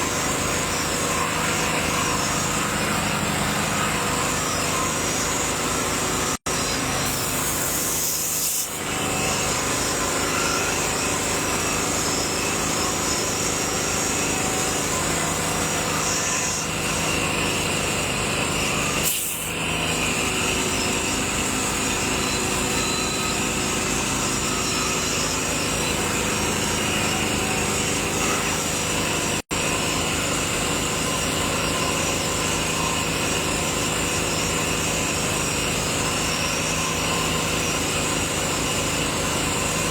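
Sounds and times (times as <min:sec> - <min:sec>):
small motor running: 0:00.0 - 0:39.9.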